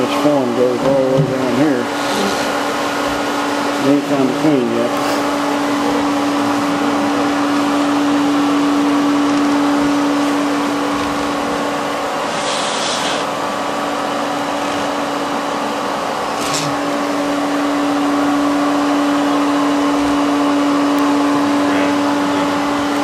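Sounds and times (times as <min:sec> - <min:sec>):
vacuum humming: 0:00.0 - 0:23.0.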